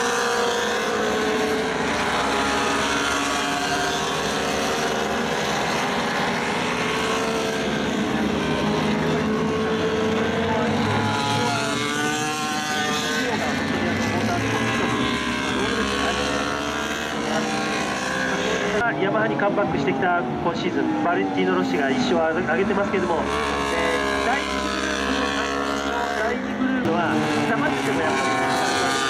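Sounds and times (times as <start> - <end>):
racing motorcycles passing: 0.0 - 29.0.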